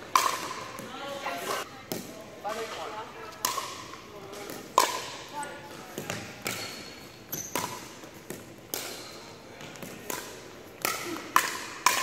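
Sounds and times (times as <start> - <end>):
ball bouncing on hardwood court: 0.0 - 12.0.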